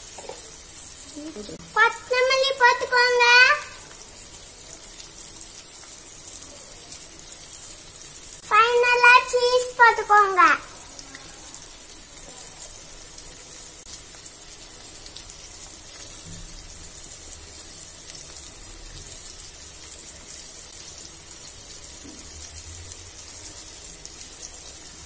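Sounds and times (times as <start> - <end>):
food sizzling in butter in a pan: 0.0 - 25.0.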